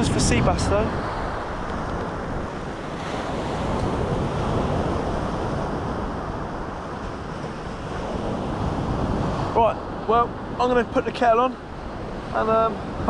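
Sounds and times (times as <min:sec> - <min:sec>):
sea surf washing: 0:00.0 - 0:13.0
wind on microphone: 0:00.0 - 0:13.0.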